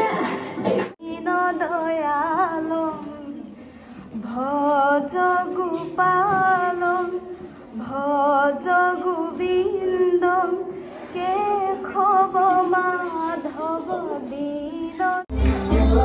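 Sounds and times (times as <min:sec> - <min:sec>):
woman singing: 0:00.0 - 0:16.0.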